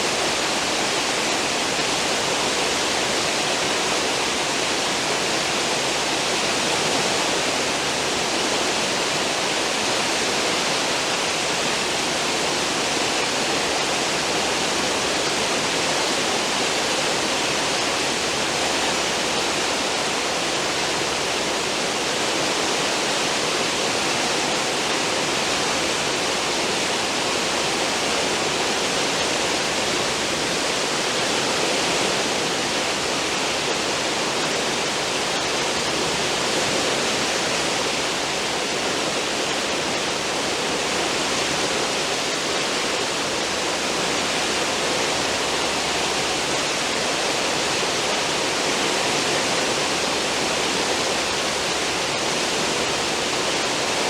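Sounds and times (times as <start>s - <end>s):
ship wake water rushing: 0.0s - 54.0s.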